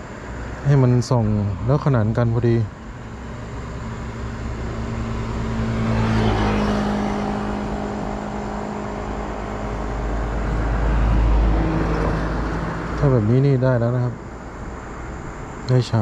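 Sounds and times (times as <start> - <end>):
motor vehicle engine hum: 0.0 - 16.0
traffic passing: 0.0 - 16.0.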